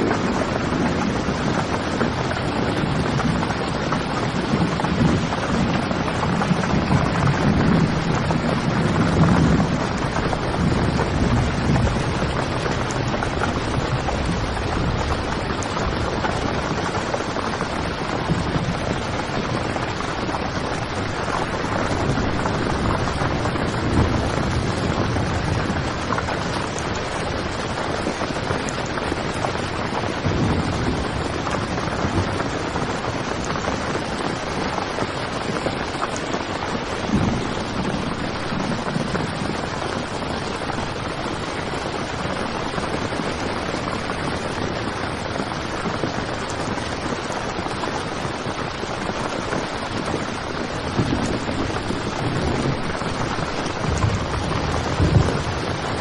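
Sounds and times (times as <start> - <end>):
heavy rain on tent fabric: 0.0 - 56.0.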